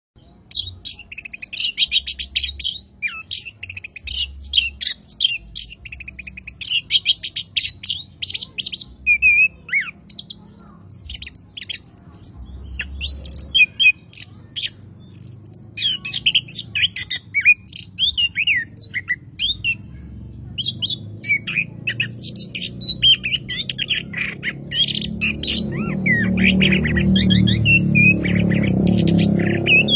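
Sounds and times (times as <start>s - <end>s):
thrush singing: 0.4s - 29.9s.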